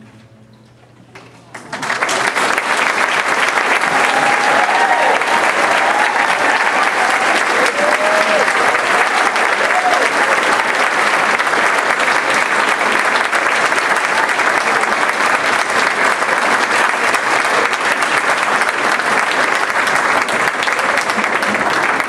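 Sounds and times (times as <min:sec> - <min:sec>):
audience applauding: 0:01.5 - 0:22.0.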